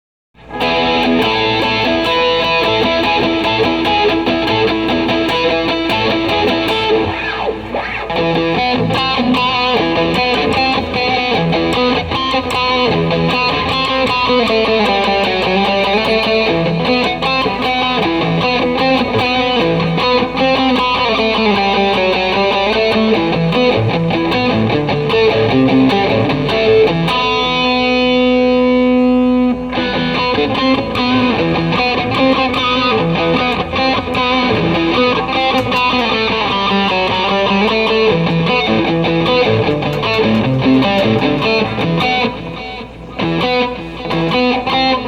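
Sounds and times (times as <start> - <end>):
guitar picked and strummed: 0.4 - 45.0.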